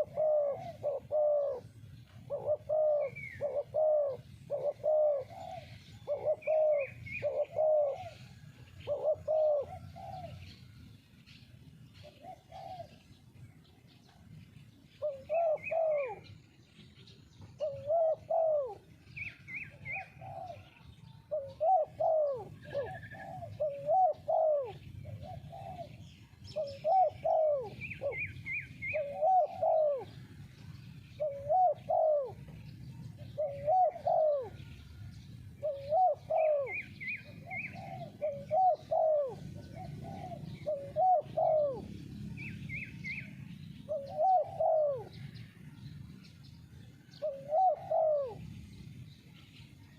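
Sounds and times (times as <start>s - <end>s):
dove cooing: 0.0s - 10.8s, 11.6s - 13.4s, 14.0s - 16.8s, 17.4s - 45.8s, 46.5s - 49.1s
small birds chirping in trills: 0.0s - 49.9s.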